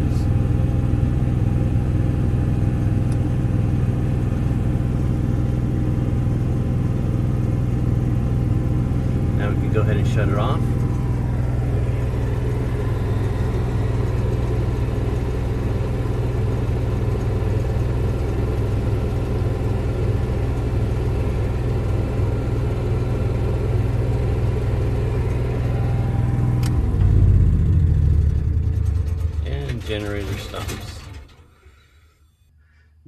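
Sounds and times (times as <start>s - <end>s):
generator running: 0.0s - 32.2s.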